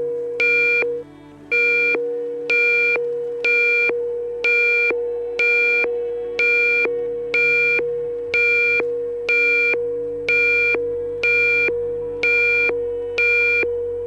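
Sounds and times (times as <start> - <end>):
steady alarm tone: 0.0 - 13.8.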